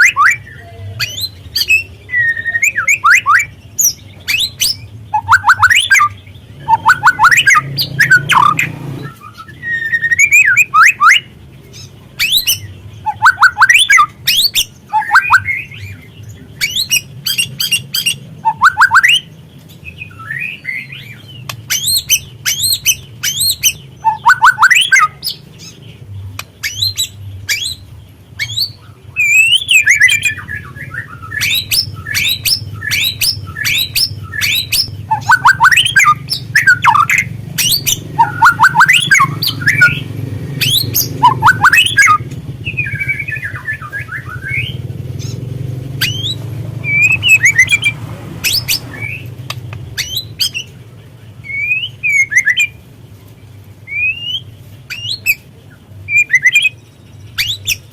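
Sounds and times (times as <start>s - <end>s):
bird chattering and whistling: 0.0s - 52.9s, 53.8s - 57.9s.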